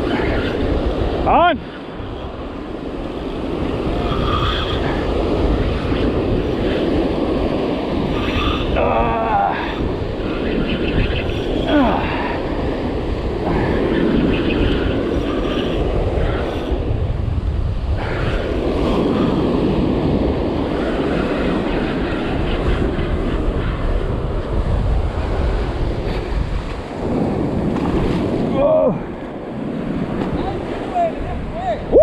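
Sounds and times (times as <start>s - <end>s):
surf washing up on beach: 0.0s - 32.0s
wind blowing across microphone: 0.0s - 32.0s.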